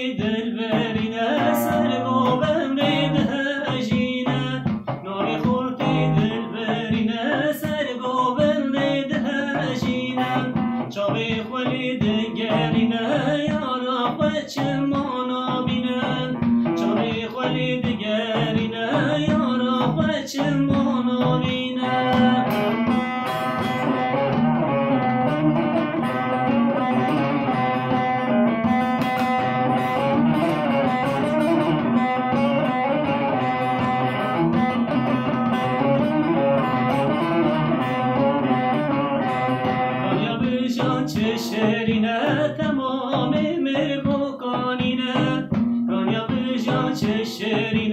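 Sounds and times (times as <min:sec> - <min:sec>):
long-necked lute plucked and strummed: 0:00.0 - 0:47.9.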